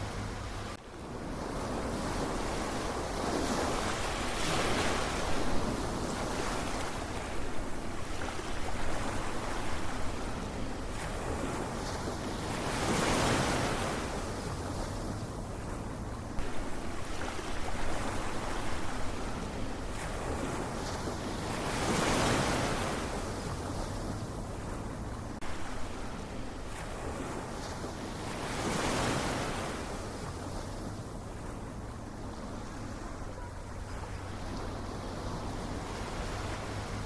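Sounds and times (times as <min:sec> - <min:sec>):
ocean waves washing in: 0:00.0 - 0:37.0.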